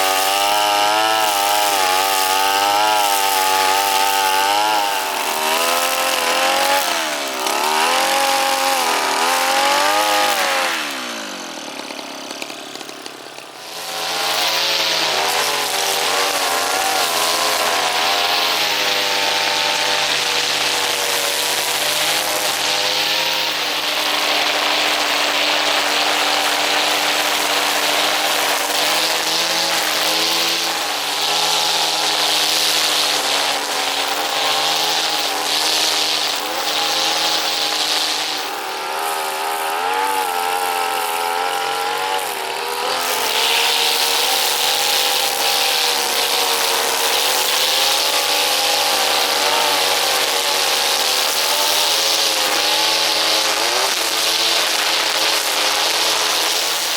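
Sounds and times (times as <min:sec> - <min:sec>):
brush cutter engine running: 0:00.0 - 0:56.9.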